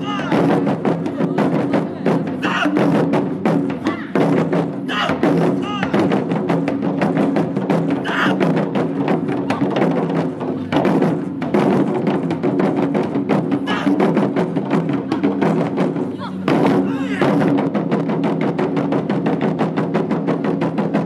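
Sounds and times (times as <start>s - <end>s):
taiko drums playing: 0.0s - 21.0s.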